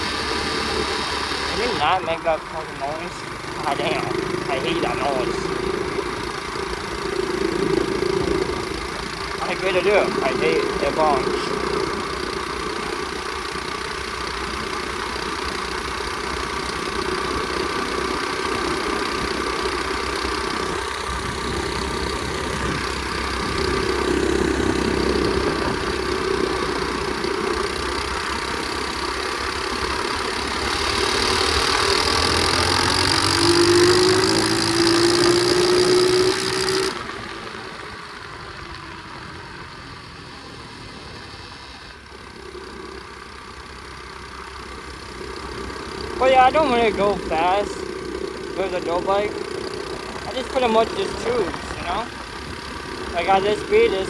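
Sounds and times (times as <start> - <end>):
pit bike engine accelerating: 0.0 - 54.0.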